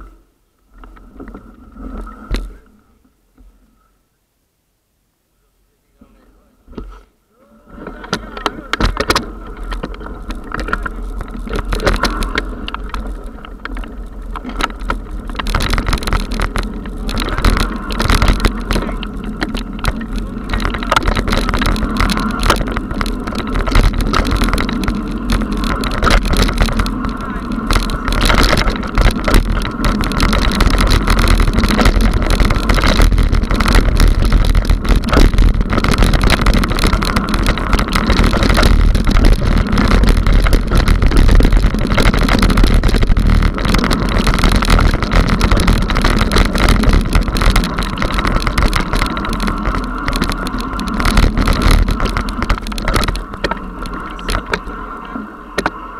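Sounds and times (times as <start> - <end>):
bike tyres crunching on dirt: 7.6 - 55.9
bike rattling over bumps: 7.7 - 55.9.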